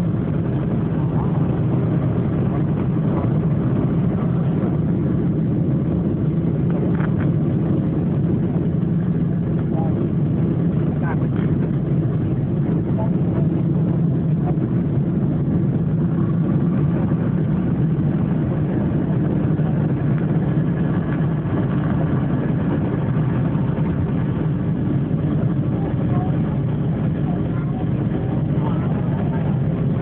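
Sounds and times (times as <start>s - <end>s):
airplane engines rumbling: 0.0s - 30.0s.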